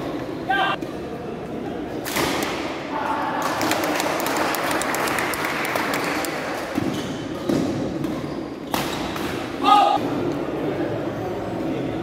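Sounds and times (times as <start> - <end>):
din of spectators: 0.0 - 12.0.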